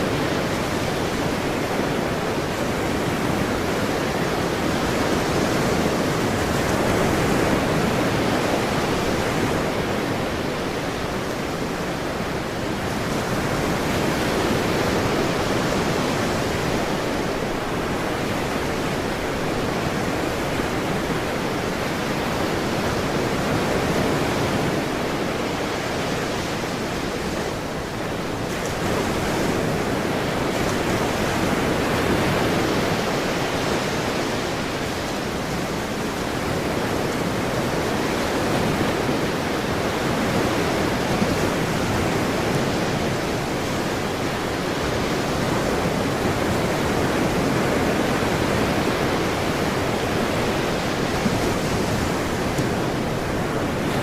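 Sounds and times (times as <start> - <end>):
ocean waves and surf: 0.0 - 54.0.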